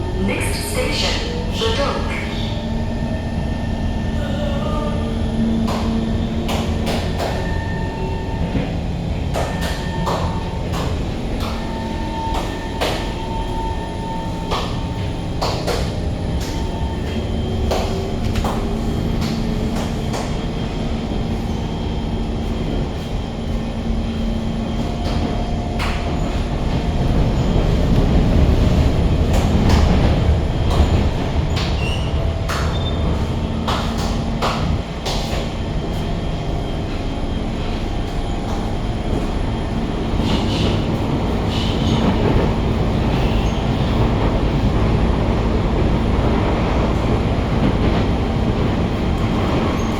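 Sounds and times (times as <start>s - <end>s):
train rumble: 0.0s - 49.9s.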